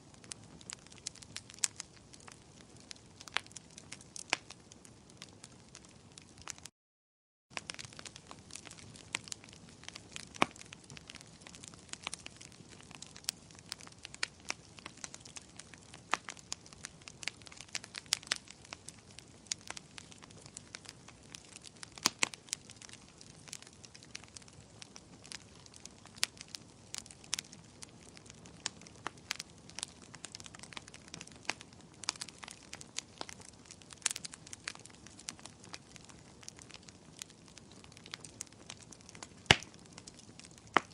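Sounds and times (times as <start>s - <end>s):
wood fire crackling: 0.0s - 6.7s, 7.5s - 40.9s
fire pops: 0.1s - 6.7s, 7.6s - 40.9s.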